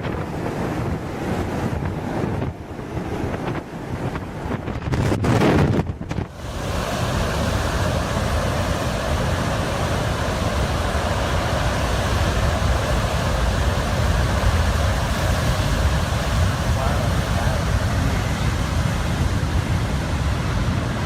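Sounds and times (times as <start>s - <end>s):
heavy sea rumbling: 0.0s - 21.0s
storm wind rushing: 0.0s - 21.0s.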